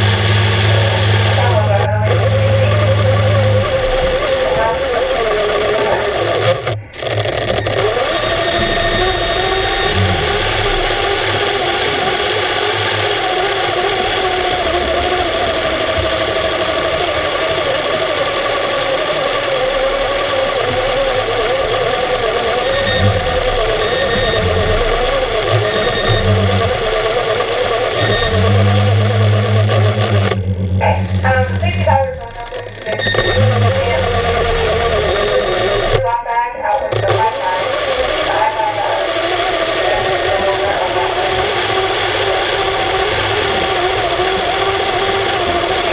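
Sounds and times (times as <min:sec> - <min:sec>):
lower steady hum: 0:00.0 - 0:45.9
underwater machinery hum: 0:00.0 - 0:45.9
wavering whine: 0:00.0 - 0:45.9.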